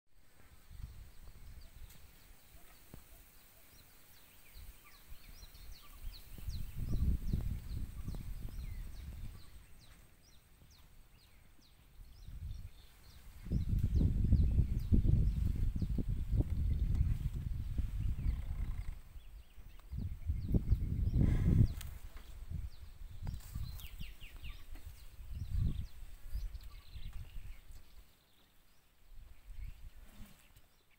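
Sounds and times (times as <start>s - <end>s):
wind rumbling on microphone: 0.2s - 30.6s
small birds chirping: 0.2s - 30.9s.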